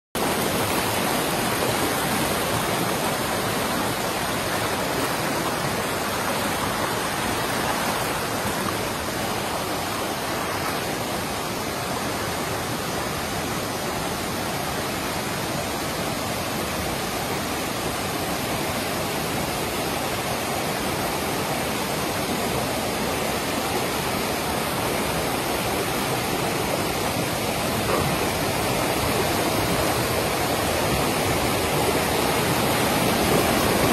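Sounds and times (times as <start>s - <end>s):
river rushing over boulders: 0.2s - 33.9s.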